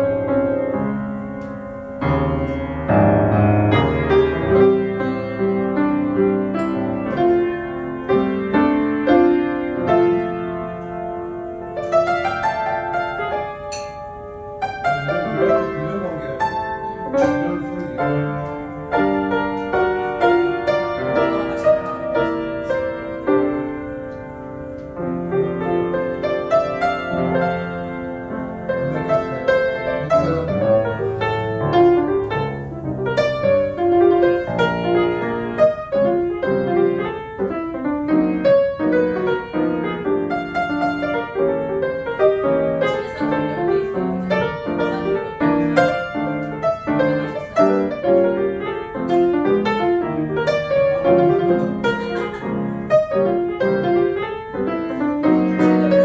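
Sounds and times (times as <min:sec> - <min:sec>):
grand piano playing: 0:00.0 - 0:56.0.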